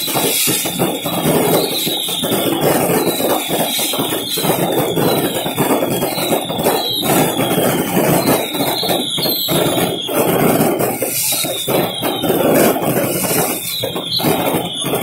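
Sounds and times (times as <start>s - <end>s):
firework bangs: 0.0s - 15.0s
firework whistle sliding down: 0.0s - 15.0s
fireworks crackling: 0.0s - 15.0s.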